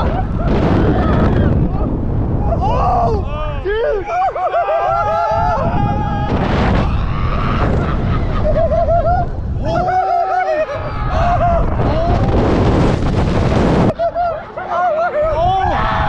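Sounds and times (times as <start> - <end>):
riders screaming and whooping: 0.0 - 12.9, 13.8 - 16.0
wind buffeting microphone: 0.0 - 14.5.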